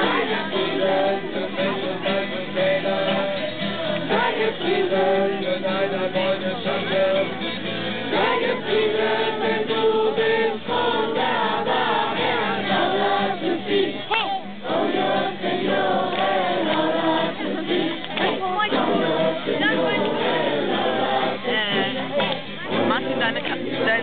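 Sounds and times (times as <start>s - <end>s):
group singing a worship song: 0.0s - 24.0s.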